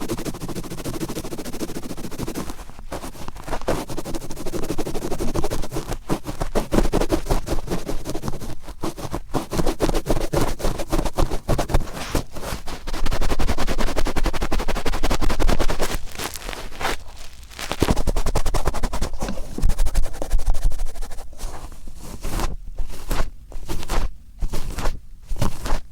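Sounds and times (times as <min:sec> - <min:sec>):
cotton swab scratching in ear: 0:00.0 - 0:25.9.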